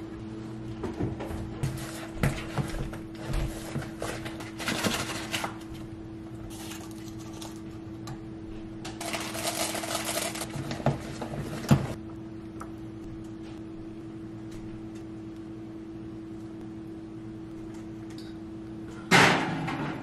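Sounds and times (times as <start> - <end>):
low hum: 3.8 - 20.0.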